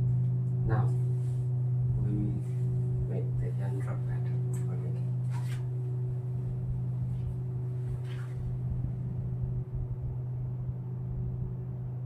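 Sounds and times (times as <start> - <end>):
low rumble: 0.0 - 12.0
steady low hum: 0.0 - 12.0.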